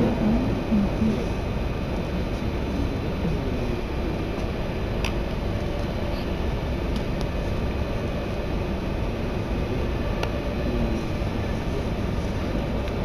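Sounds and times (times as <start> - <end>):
train wheels rumbling in tunnel: 0.0 - 13.0.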